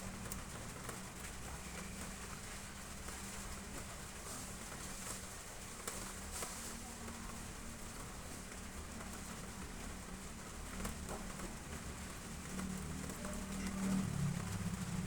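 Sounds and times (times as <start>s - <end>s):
rain on roof tiles: 0.0s - 15.0s.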